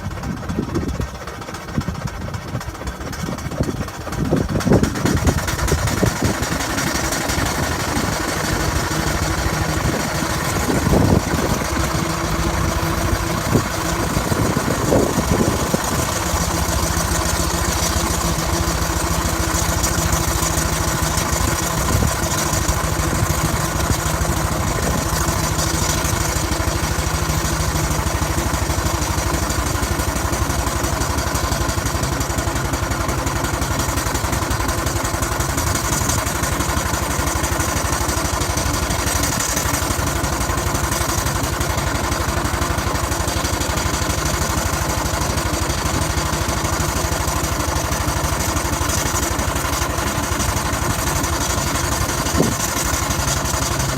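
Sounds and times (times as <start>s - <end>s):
steam traction engine running: 0.0s - 53.9s.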